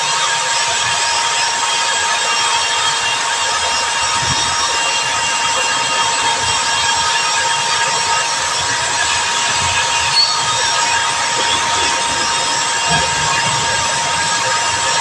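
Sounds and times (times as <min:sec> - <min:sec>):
rotary buffer grinding rubber: 0:00.0 - 0:15.0.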